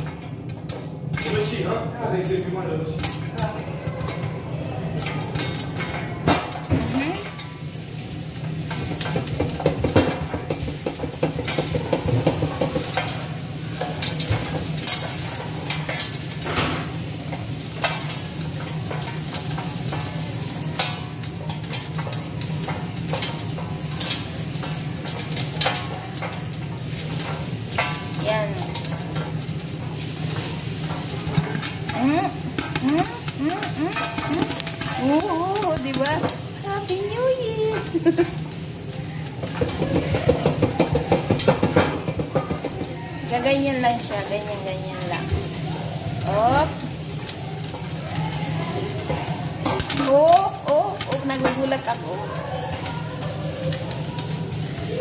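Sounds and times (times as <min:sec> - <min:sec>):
hot oil hissing: 0:00.0 - 0:55.0
popcorn popping in a pot: 0:00.0 - 0:55.0.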